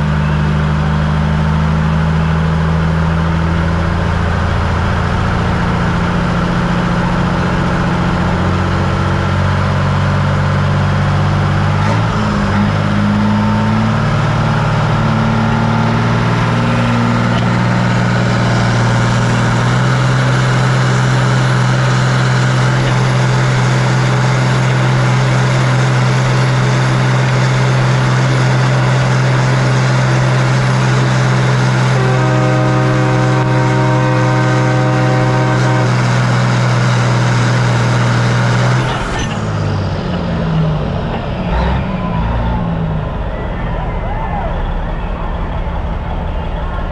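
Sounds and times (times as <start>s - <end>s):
diesel pickup engine under load: 0.0s - 46.9s.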